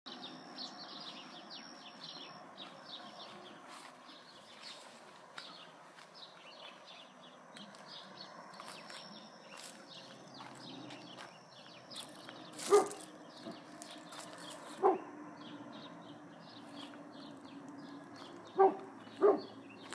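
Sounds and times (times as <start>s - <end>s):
faint bird chirping: 0.1s - 19.9s.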